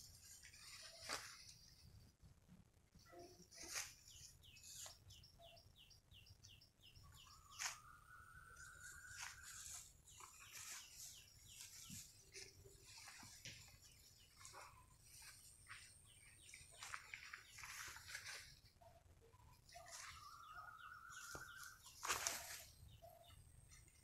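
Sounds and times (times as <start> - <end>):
faint bird calls: 3.0 - 24.0.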